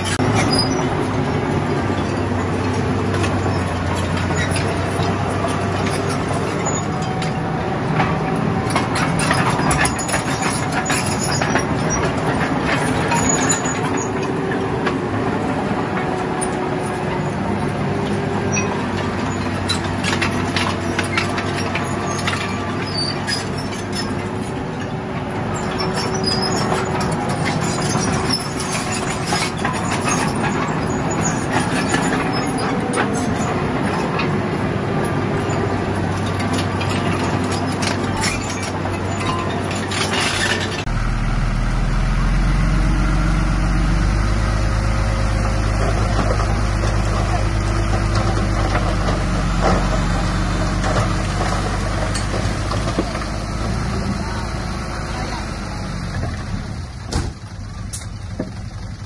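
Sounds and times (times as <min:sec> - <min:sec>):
bulldozer diesel engine: 0:00.0 - 0:59.0
steel tracks clanking: 0:00.0 - 0:59.0.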